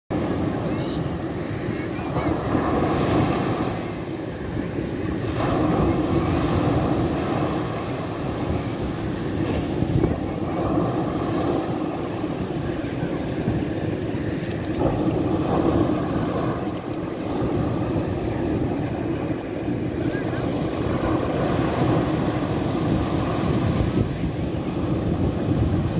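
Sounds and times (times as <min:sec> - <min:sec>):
waves breaking on beach: 0:00.1 - 0:25.9.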